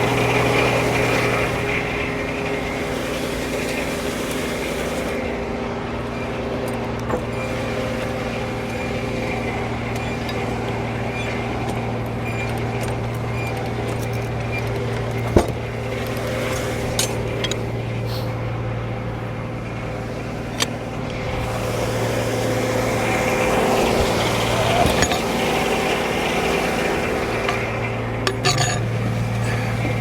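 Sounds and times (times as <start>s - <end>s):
sawmill humming: 0.0s - 30.0s.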